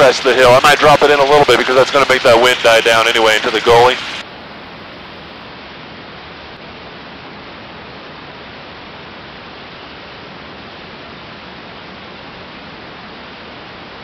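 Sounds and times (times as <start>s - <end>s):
in-flight cabin noise: 0.0s - 14.0s.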